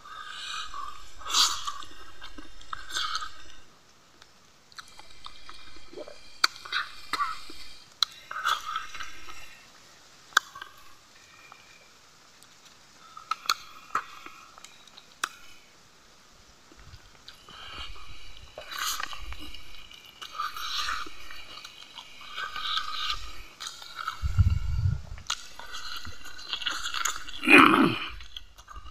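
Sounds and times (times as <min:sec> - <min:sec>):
man chewing food: 0:00.0 - 0:15.9, 0:16.6 - 0:28.9.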